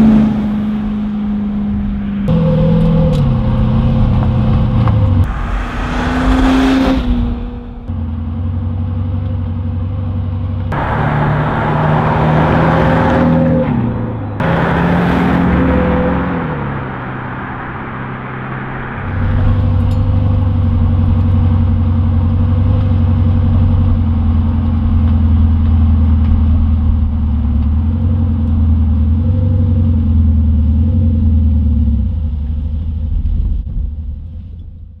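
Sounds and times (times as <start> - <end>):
deep exhaust rumble: 0.0 - 35.0.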